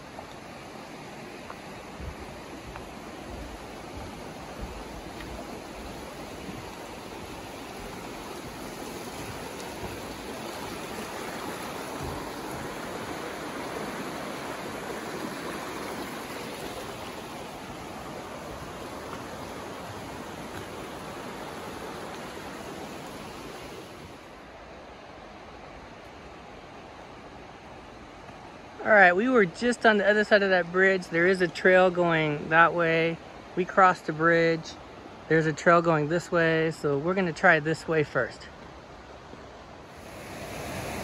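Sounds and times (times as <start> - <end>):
creek water rushing over stones: 0.0 - 41.0.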